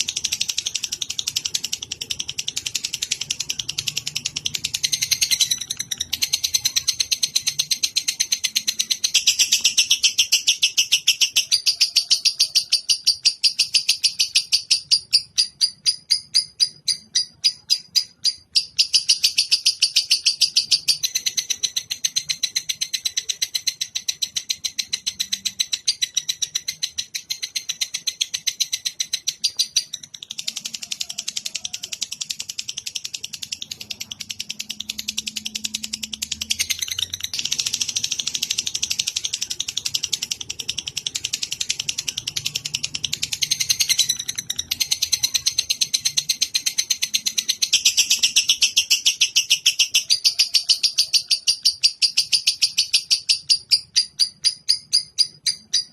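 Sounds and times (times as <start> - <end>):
songbird chattering trill: 0.0 - 55.9.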